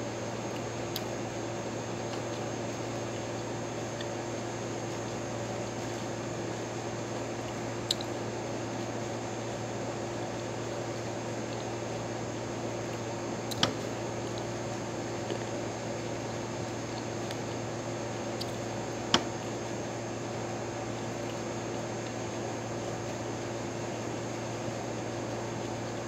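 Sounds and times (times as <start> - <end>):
air conditioner humming: 0.0 - 26.0.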